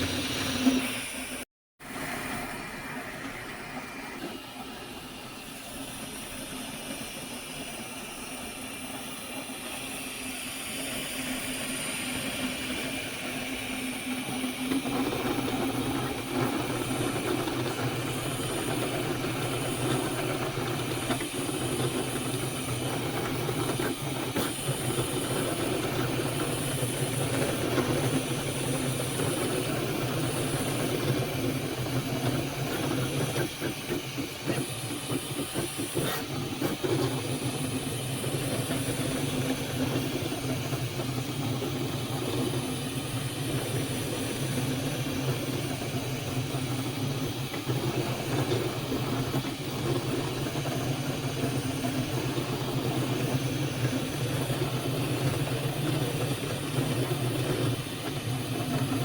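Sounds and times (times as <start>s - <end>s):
fans humming and hissing: 0.0s - 59.0s
stepper motors whirring: 4.3s - 59.0s.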